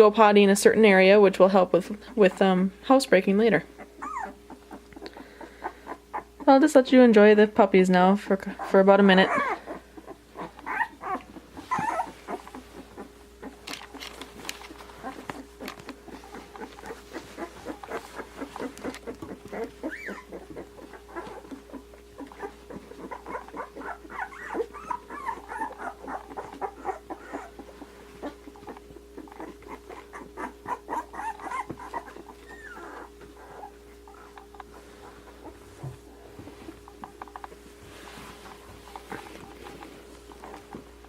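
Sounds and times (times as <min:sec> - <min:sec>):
steady low hum: 0:00.0 - 0:41.0
puppies squeaking and whimpering: 0:03.7 - 0:06.5, 0:08.4 - 0:41.0.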